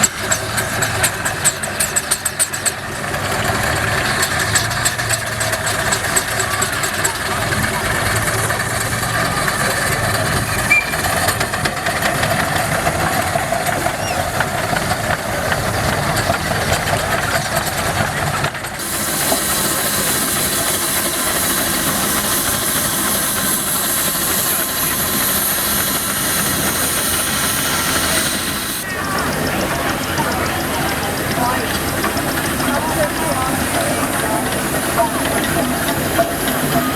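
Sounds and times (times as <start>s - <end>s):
steam engine hissing: 0.0s - 36.9s.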